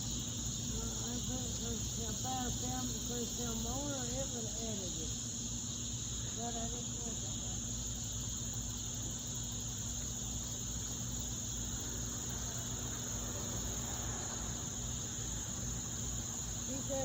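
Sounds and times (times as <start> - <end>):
insects trilling: 0.0 - 17.0
low steady hum: 0.0 - 17.0.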